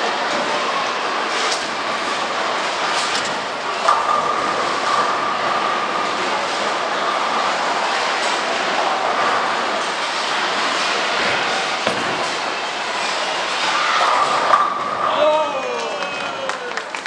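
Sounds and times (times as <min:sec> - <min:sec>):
bowling balls rolling: 0:00.2 - 0:15.3.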